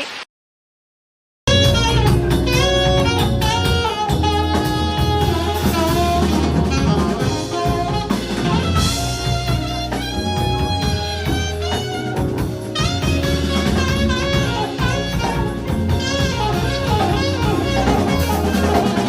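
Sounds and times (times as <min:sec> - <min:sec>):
jazz music with saxophone: 0:01.5 - 0:19.0.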